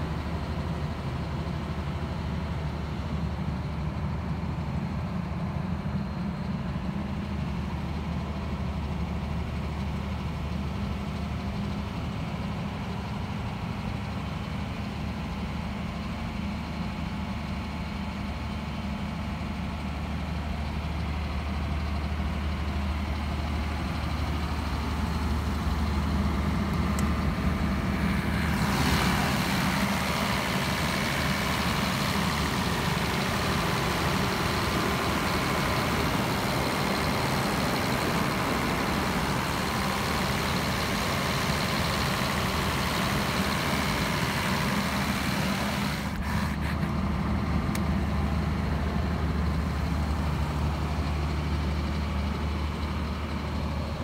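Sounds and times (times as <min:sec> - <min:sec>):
diesel generator running: 0:00.0 - 0:54.0.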